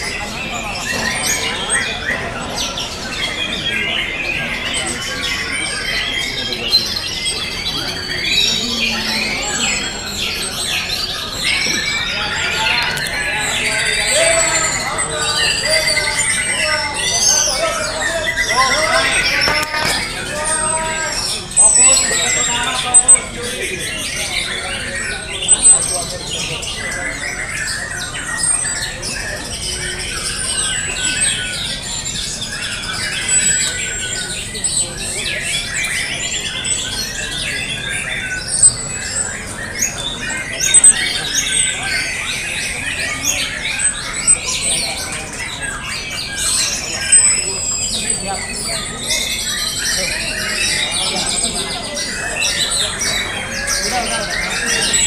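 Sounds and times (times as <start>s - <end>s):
birds singing whistles and chatter: 0.0s - 55.0s.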